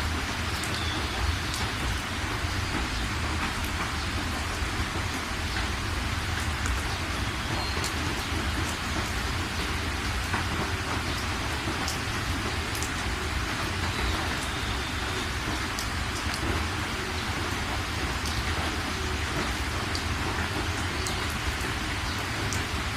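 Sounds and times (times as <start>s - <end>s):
rain hissing: 0.0s - 22.9s.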